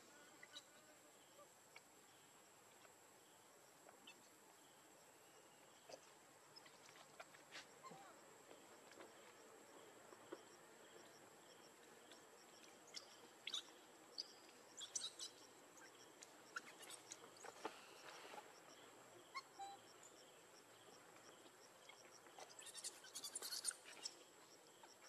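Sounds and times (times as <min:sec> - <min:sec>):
faint outdoor ambience: 0:00.0 - 0:25.0.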